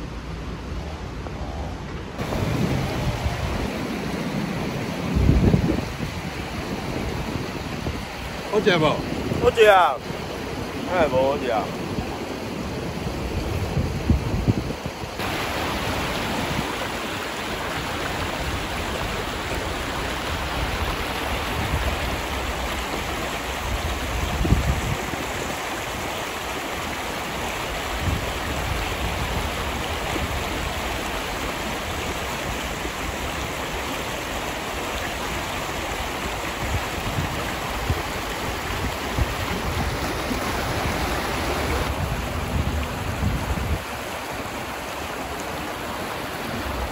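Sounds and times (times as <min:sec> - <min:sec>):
river water rushing over rocks: 0:00.0 - 0:46.9.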